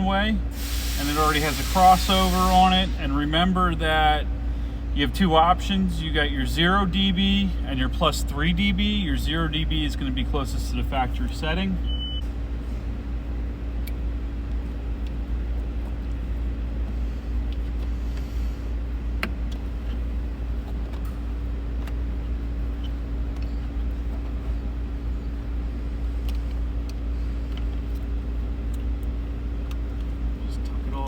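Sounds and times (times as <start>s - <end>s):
constant hum: 0.0s - 31.0s.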